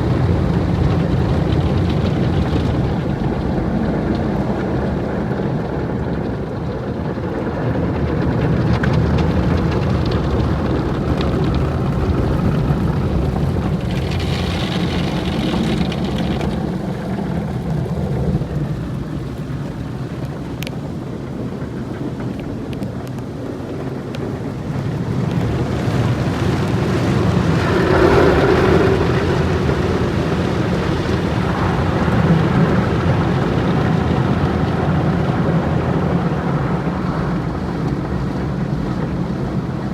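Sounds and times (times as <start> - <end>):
car wash machinery: 0.0 - 39.9.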